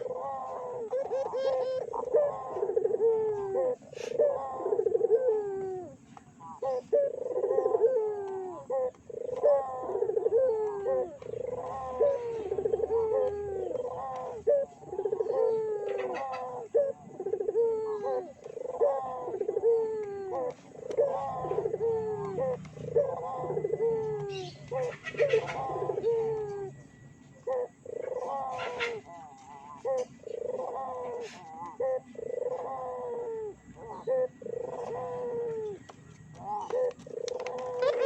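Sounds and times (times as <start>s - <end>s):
dove cooing: 0.0s - 38.0s.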